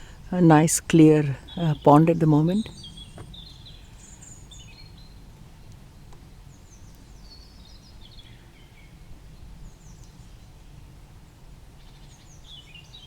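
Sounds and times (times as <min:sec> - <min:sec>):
songbirds singing: 0:00.0 - 0:10.9, 0:11.7 - 0:13.0.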